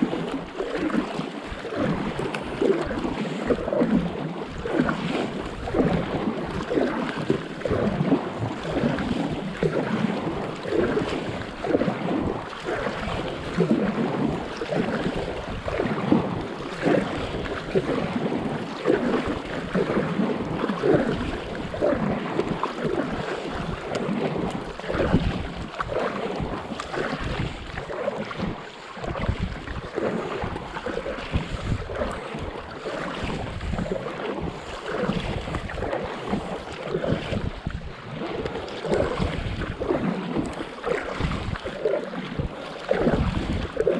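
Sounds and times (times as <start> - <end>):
paddle strokes sloshing: 0.0 - 43.9
water splashing around paddleboard: 0.0 - 43.9.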